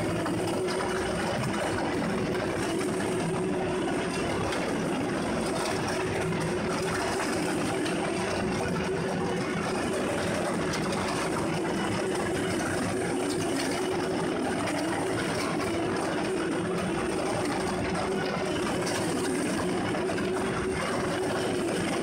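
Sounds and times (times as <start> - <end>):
document shredder running: 0.0 - 22.0.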